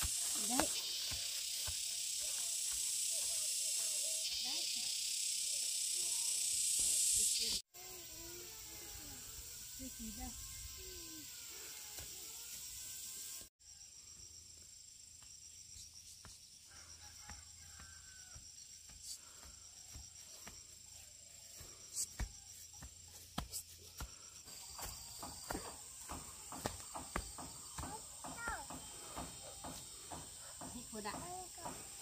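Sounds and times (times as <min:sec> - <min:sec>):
high-pitched insect chirring: 0:00.0 - 0:32.0.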